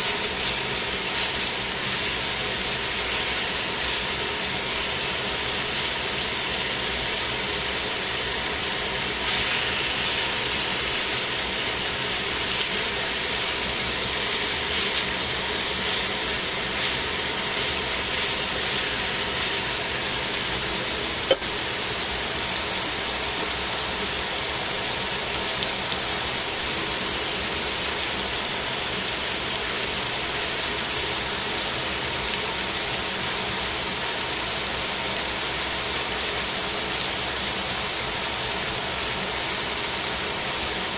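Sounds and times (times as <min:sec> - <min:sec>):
chicken sizzling in frying pan: 0:00.0 - 0:40.9.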